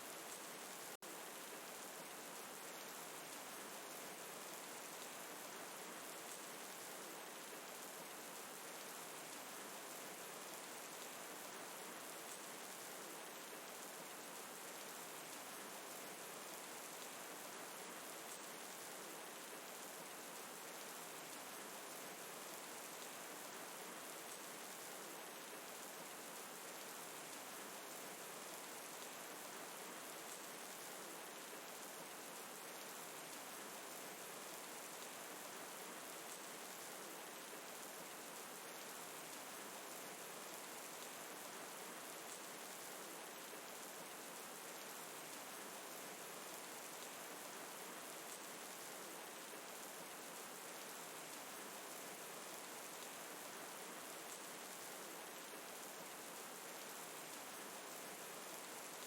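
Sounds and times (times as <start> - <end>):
gentle rain falling: 0.0 - 59.0.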